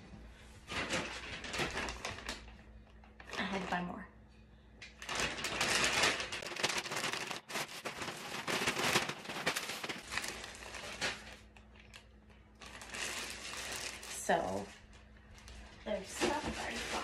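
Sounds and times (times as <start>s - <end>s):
plastic packaging crinkling: 0.7s - 3.8s, 4.9s - 17.0s.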